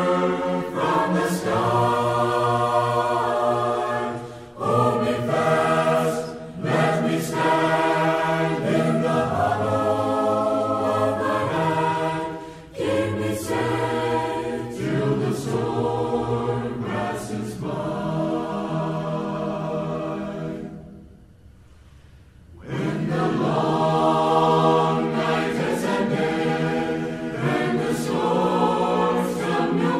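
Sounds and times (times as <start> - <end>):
choir singing unaccompanied: 0.0 - 21.2, 22.5 - 29.9.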